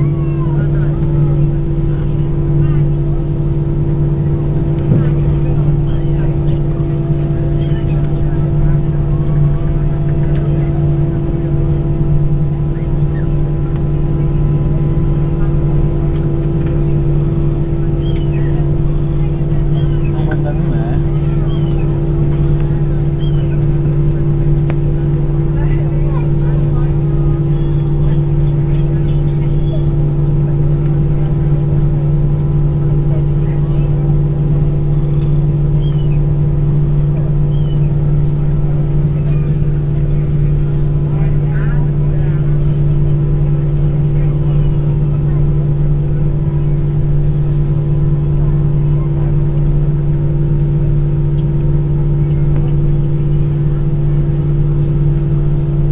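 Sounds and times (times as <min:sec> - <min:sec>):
jet engines droning in cabin: 0:00.0 - 0:55.9.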